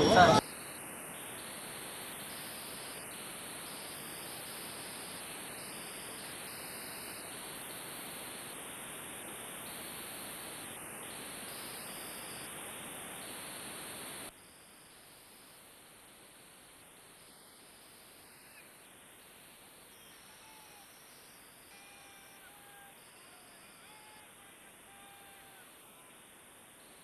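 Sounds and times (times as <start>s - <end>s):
static hiss: 0.0s - 27.0s.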